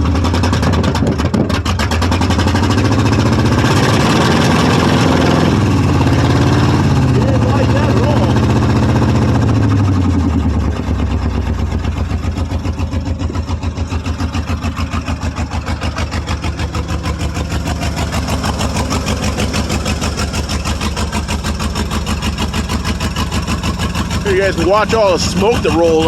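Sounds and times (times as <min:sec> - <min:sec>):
engine revving to rough idle: 0:00.0 - 0:26.0.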